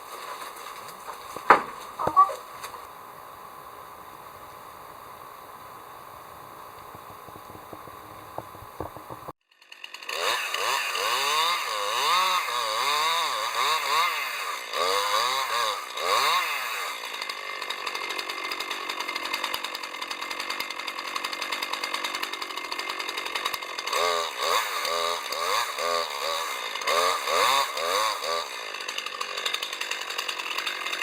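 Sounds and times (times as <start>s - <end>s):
chainsaw engine revving: 0.8s - 31.0s.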